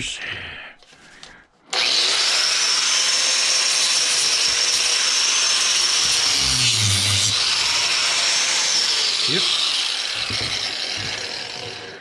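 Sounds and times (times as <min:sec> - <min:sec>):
power grinder cutting metal: 0:01.7 - 0:12.0.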